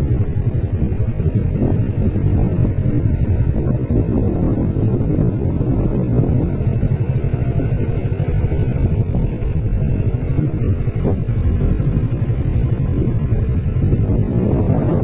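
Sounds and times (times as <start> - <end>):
motorcycle engine rumbling: 0.0 - 15.0
wind on microphone: 0.0 - 15.0.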